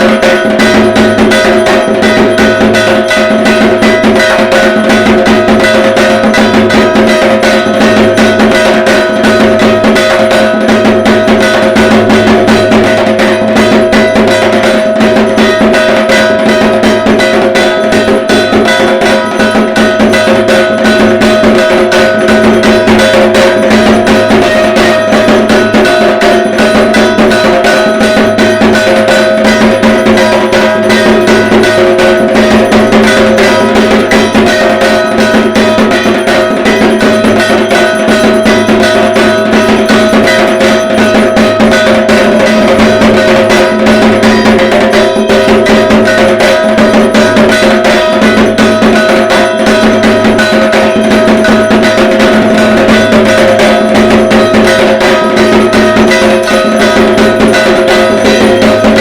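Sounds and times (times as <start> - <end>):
barrel drum played with sticks: 0.0 - 59.0
metallic ringing: 0.0 - 59.0.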